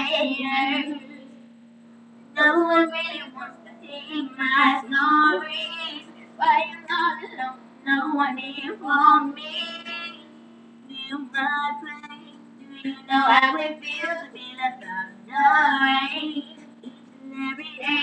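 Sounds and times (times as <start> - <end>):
girls singing: 0.0 - 1.3, 2.4 - 10.3, 10.9 - 18.0.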